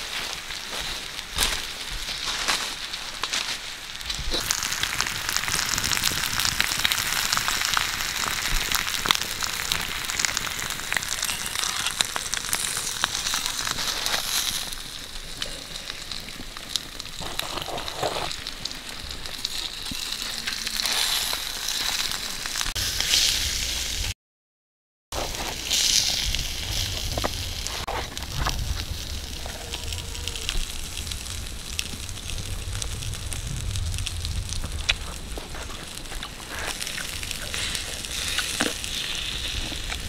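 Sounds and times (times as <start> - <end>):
intestines sizzling on hot stone: 0.0 - 24.1, 25.2 - 40.0
wood fire crackles: 0.0 - 24.1, 25.2 - 40.0.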